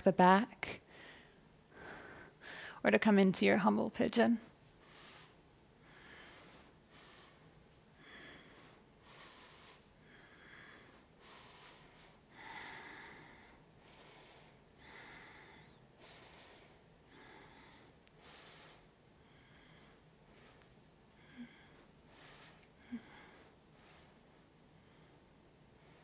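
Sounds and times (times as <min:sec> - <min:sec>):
person breathing slowly: 0:00.9 - 0:02.8, 0:04.8 - 0:26.0.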